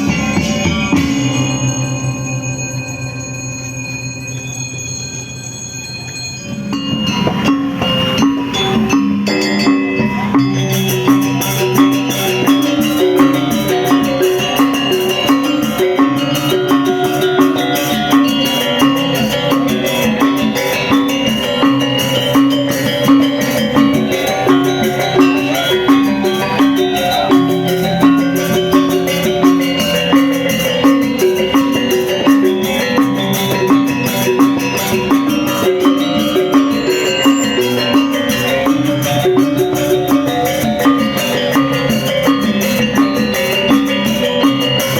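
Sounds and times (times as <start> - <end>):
gamelan music: 0.0 - 44.9.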